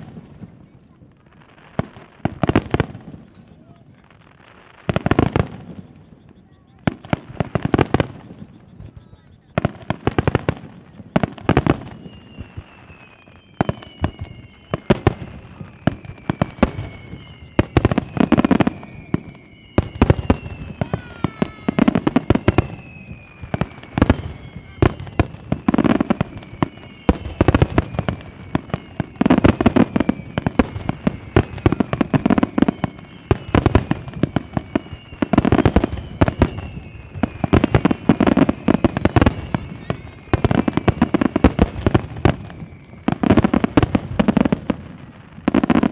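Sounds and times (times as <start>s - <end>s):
firework whistles gliding down: 0.0s - 45.9s
fireworks cracking and popping: 0.0s - 45.9s.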